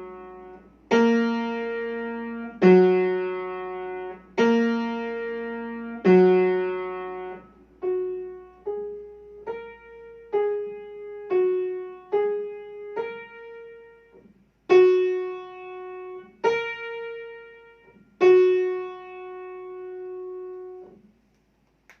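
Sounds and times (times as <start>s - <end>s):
piano playing slow melody: 0.0s - 21.0s.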